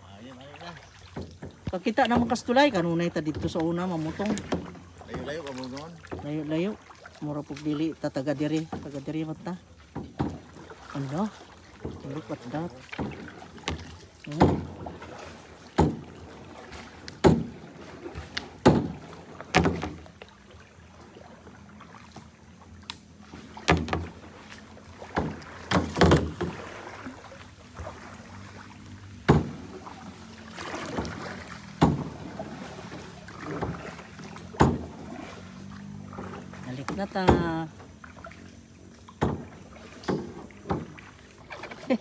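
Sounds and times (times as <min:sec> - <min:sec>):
kayak paddle splashing: 0:00.0 - 0:42.0.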